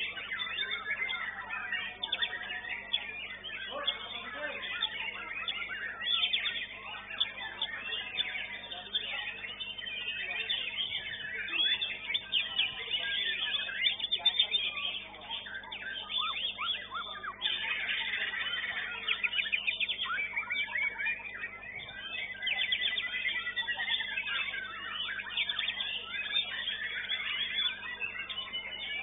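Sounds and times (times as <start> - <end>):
birds whistling and trilling: 0.0 - 29.0.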